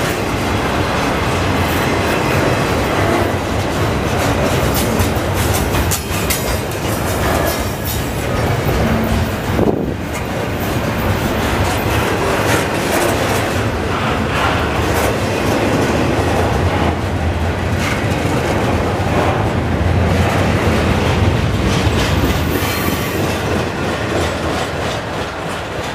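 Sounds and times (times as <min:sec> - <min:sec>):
train wheels rumbling and clacking: 0:00.0 - 0:25.9.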